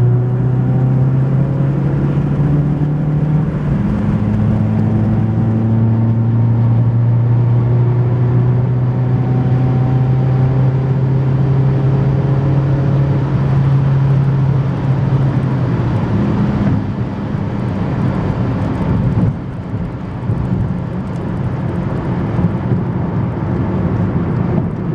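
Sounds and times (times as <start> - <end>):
car engine drone: 0.0 - 24.9
road noise inside car: 0.0 - 24.9.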